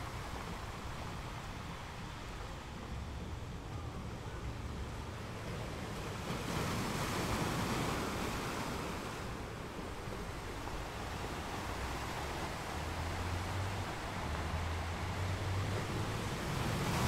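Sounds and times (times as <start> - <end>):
waves surging: 0.0 - 17.0
wind: 0.0 - 17.0.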